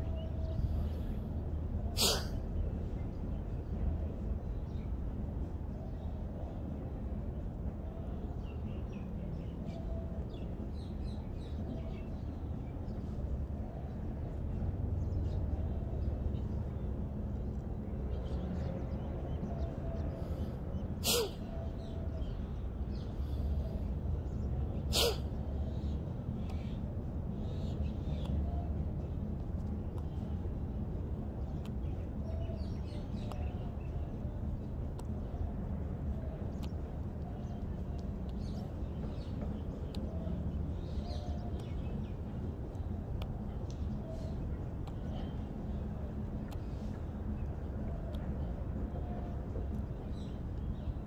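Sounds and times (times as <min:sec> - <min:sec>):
low background rumble: 0:00.0 - 0:51.0.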